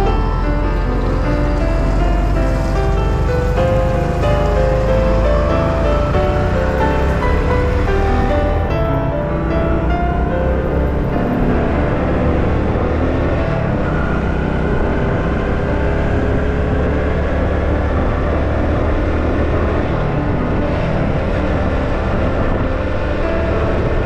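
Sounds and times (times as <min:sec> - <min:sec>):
road and wind rumble: 0:00.0 - 0:24.0.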